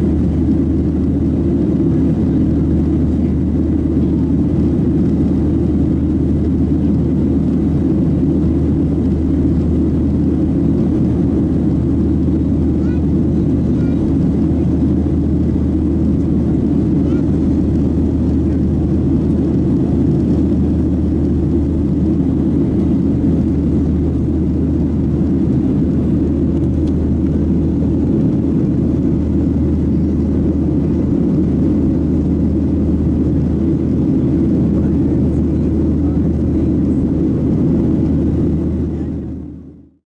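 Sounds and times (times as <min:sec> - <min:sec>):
jet engine rumble in cabin: 0:00.0 - 0:40.0.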